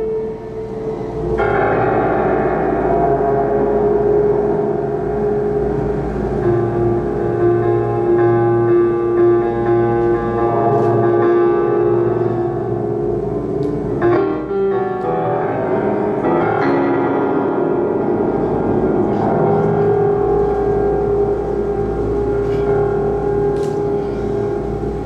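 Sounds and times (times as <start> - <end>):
slow ambient keyboard music: 0.0 - 25.0.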